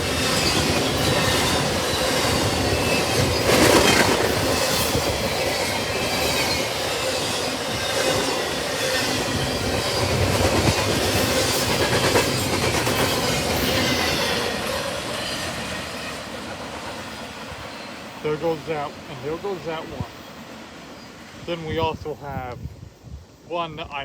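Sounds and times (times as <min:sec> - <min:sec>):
freight train wheels rumbling: 0:00.0 - 0:22.6.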